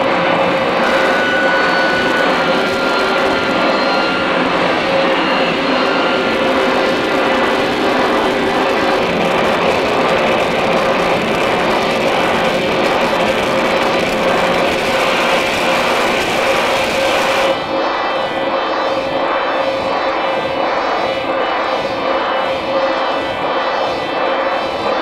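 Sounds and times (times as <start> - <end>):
distorted harsh noise music: 0.0 - 20.2.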